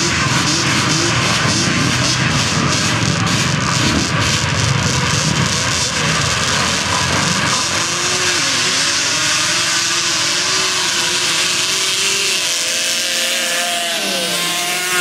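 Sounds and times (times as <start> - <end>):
lawn mower engines racing: 0.0 - 15.0.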